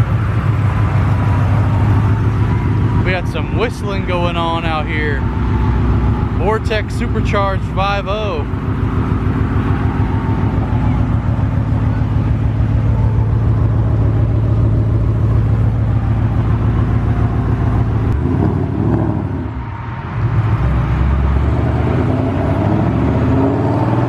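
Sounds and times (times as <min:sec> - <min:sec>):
supercharged engine rumbling: 0:00.0 - 0:24.0.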